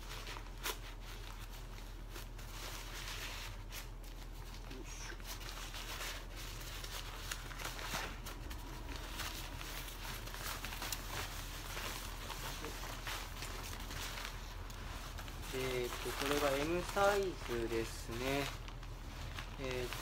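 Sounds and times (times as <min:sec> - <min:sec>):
fabric rustling and crinkling: 0:00.0 - 0:20.0.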